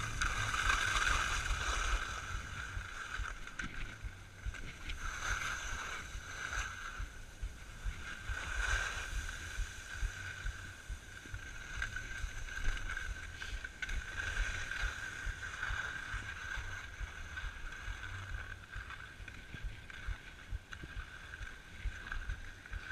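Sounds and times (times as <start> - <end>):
skis scraping over snow: 0.0 - 22.9
wind on microphone: 0.0 - 22.9.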